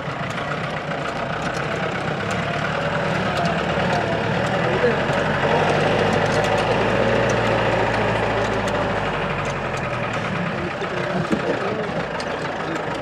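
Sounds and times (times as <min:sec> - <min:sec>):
car engine running under load: 0:00.0 - 0:13.0
clicks and rattles: 0:00.0 - 0:13.0.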